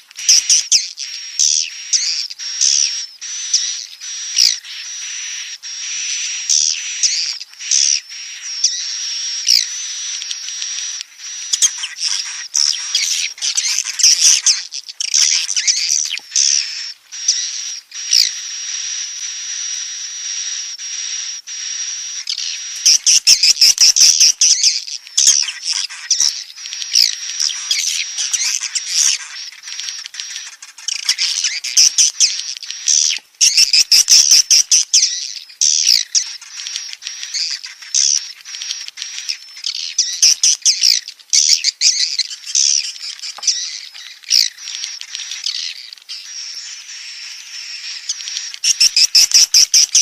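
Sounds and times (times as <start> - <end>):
bird chicks chirping: 0.0 - 50.0.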